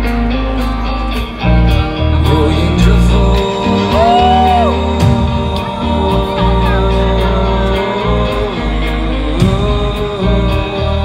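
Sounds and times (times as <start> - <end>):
electric guitar bending note: 0.0 - 11.0
live rock band playing: 0.0 - 11.0.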